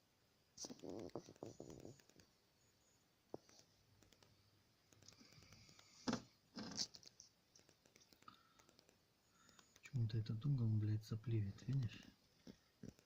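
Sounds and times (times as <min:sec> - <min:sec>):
faint clicks and rustles: 0:00.6 - 0:10.7, 0:11.3 - 0:13.0.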